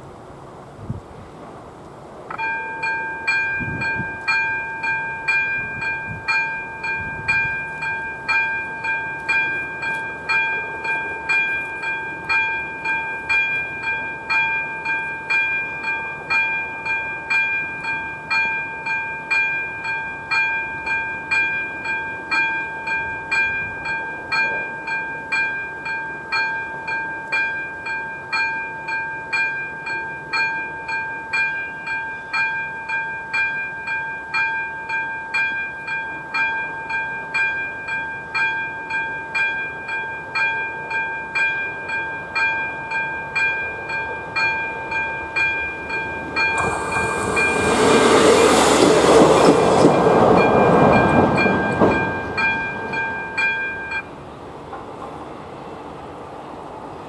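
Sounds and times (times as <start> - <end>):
level-crossing warning bell: 2.3 - 54.3.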